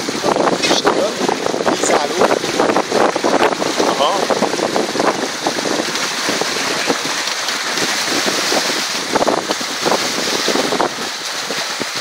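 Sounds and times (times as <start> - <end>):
water rushing in boat wake: 0.0 - 12.0
wind on microphone: 0.0 - 12.0.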